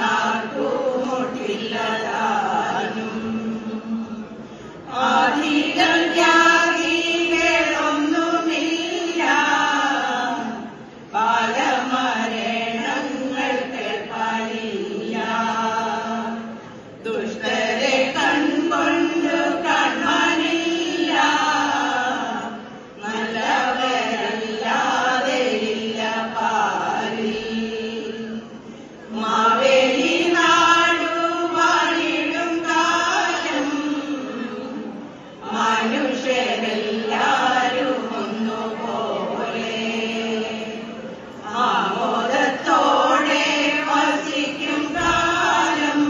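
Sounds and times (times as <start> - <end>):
women's choir singing: 0.0 - 46.0.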